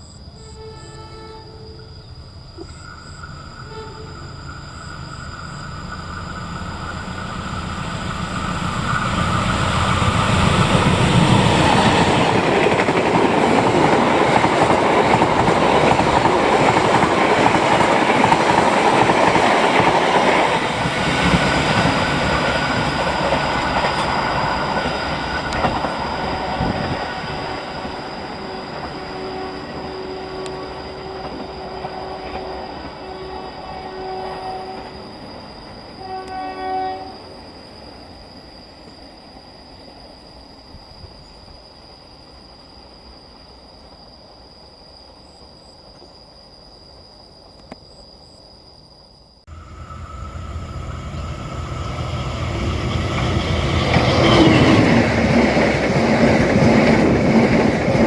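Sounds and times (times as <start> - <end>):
train passing on rails: 0.0 - 46.1, 49.5 - 58.0.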